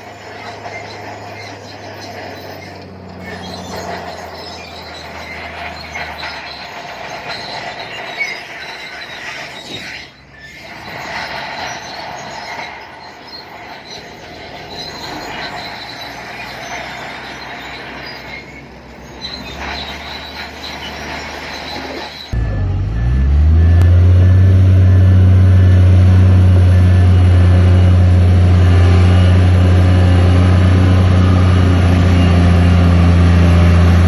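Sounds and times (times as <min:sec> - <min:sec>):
crawler tracks squealing and clanking: 0:00.0 - 0:34.0
diesel engine running: 0:00.0 - 0:34.0.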